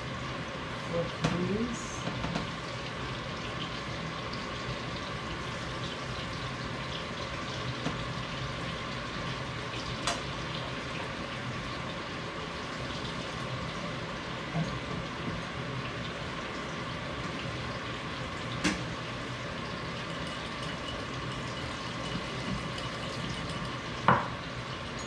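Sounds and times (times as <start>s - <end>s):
potatoes sizzling in oil: 0.0s - 25.0s.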